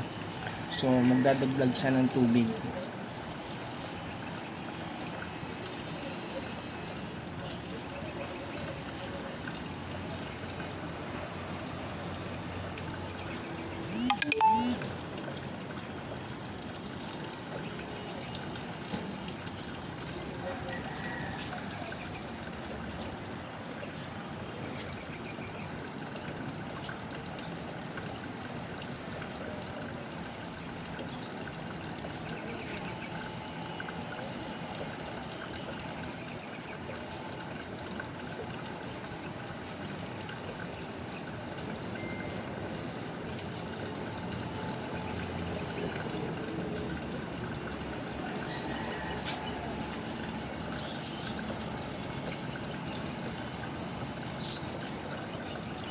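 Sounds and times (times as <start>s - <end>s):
washing machine filling with water: 0.0s - 55.9s.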